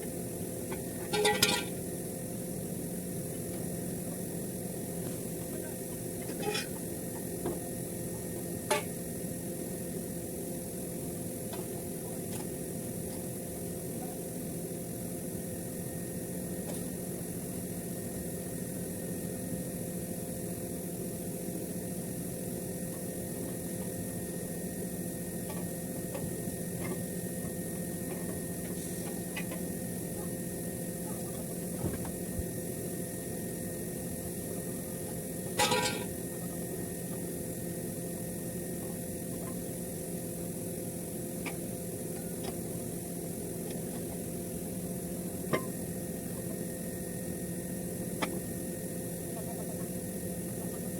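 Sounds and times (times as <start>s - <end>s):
mechanical hum with tones: 0.0s - 50.9s.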